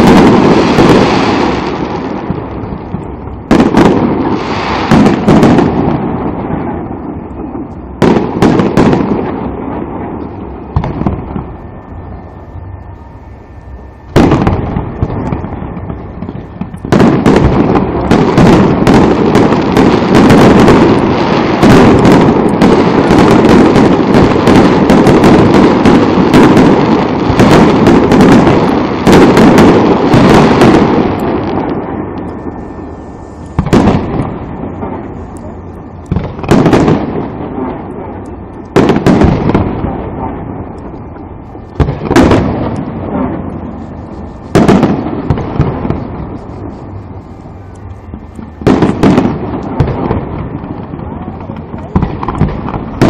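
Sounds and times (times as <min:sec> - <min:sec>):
fireworks booming: 0:00.0 - 0:53.0.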